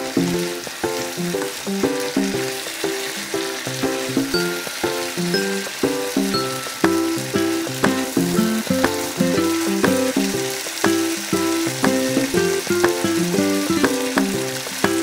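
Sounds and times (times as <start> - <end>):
food sizzling in a frying pan: 0.0 - 15.0
plucked background music: 0.0 - 15.0.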